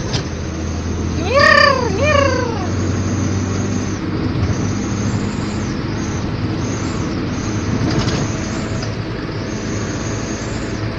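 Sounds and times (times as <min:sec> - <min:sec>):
truck engine hum: 0:00.0 - 0:10.9.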